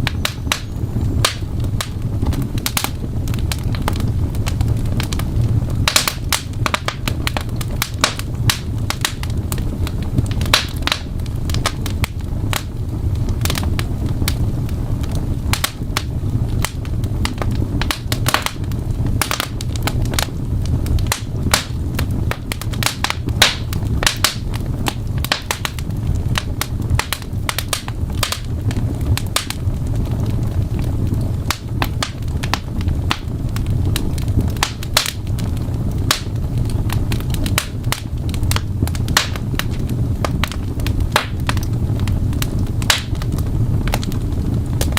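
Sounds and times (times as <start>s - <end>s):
fire crackling and popping: 0.0s - 44.9s
steady low rumble: 0.0s - 44.9s.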